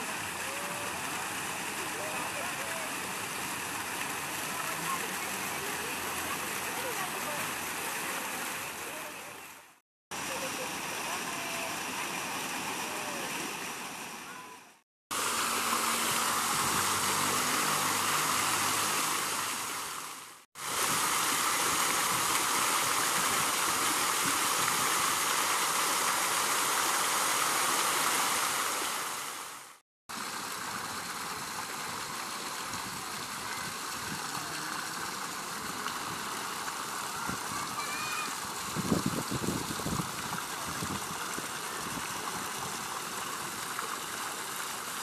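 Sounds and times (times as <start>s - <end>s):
fountain water splashing into pool: 0.0s - 45.0s.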